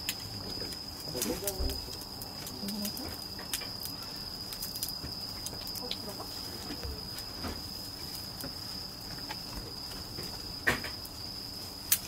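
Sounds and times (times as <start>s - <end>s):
night insects trilling: 0.0s - 12.0s.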